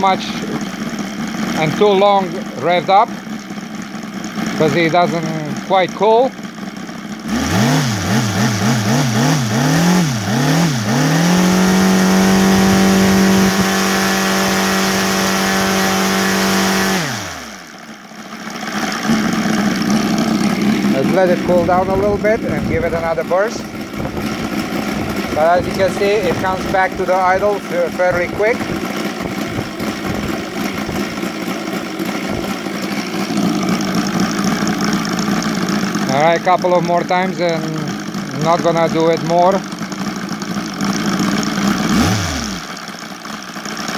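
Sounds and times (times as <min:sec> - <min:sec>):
model radial engine revving: 0:00.0 - 0:43.9.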